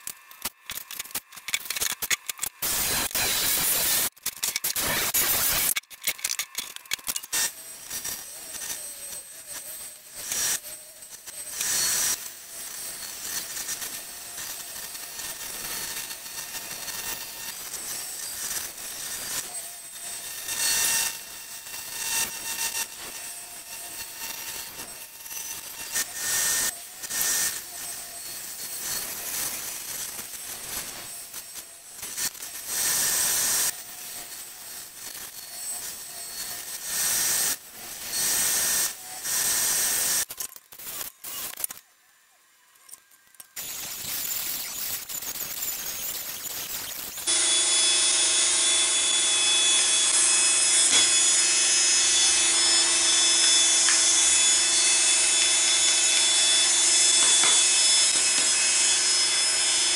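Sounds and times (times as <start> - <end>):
bandsaw cutting brass sheet: 0.0 - 41.7, 43.6 - 59.9.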